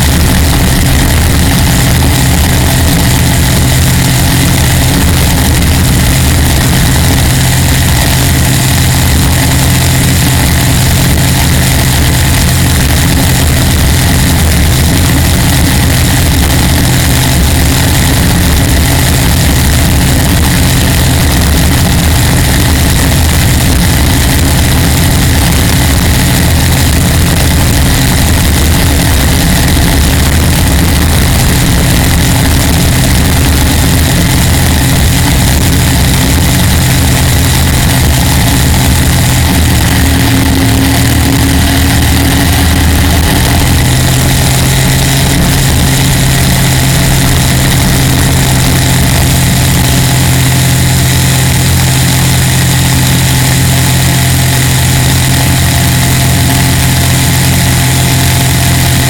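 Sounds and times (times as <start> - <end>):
boat engine running hard: 0.0 - 59.0.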